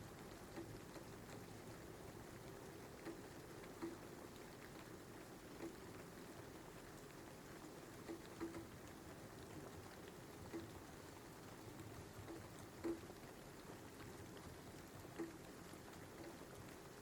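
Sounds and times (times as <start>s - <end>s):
louder raindrops: 0.0s - 17.0s
soft steady rain: 0.0s - 17.0s.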